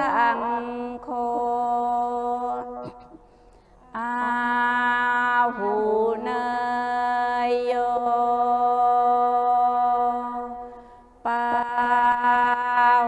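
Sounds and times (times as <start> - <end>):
mantra chanting on one note: 0.0 - 3.0, 3.9 - 13.0.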